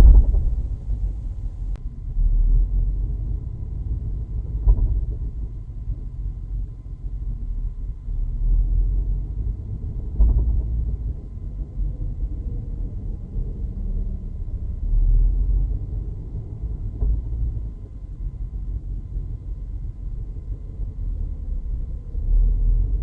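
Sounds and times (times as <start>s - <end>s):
car interior engine rumble: 0.0s - 23.0s.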